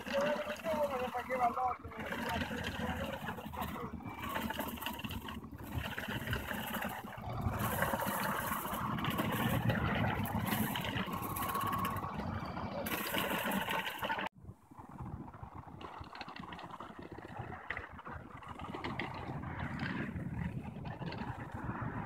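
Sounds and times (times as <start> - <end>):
powered harvester running: 0.0 - 22.0.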